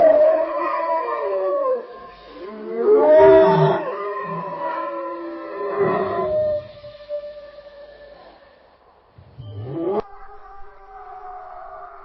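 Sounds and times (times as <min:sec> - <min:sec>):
distant wolf howling: 0:00.0 - 0:12.0.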